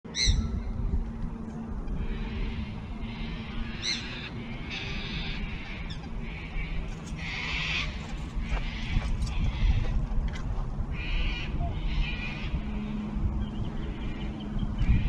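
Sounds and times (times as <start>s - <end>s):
wind rumbling on microphone: 0.1s - 15.0s.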